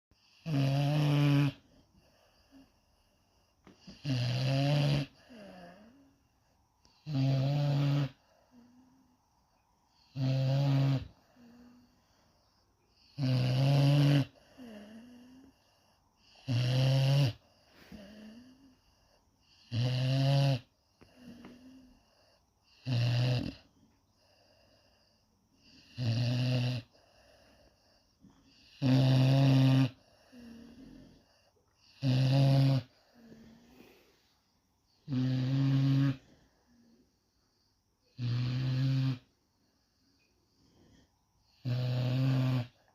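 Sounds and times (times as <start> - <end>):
dog snoring: 0.2 - 6.2, 6.8 - 9.0, 9.9 - 12.0, 12.9 - 37.0, 38.0 - 39.4, 40.2 - 42.9.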